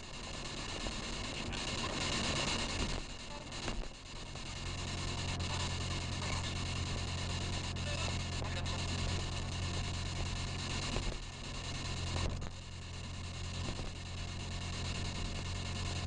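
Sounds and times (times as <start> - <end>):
low hum: 0.0 - 16.0
radio static hiss: 0.0 - 16.0
voice-like radio fragments: 0.0 - 16.0.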